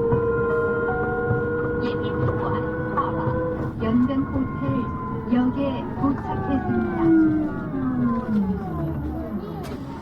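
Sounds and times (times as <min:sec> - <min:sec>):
bus drive whine: 0:00.0 - 0:10.0.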